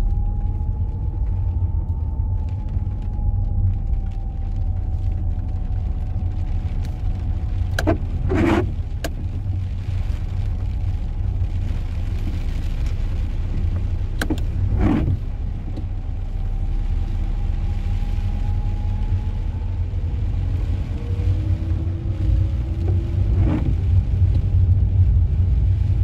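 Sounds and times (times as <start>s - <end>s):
car engine and road rumble: 0.0s - 26.0s
windscreen wipers swishing: 0.0s - 26.0s.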